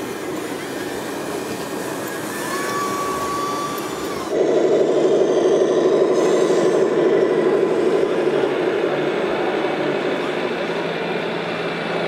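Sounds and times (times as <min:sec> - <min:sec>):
mechanical drone with flutter: 0:00.0 - 0:12.0.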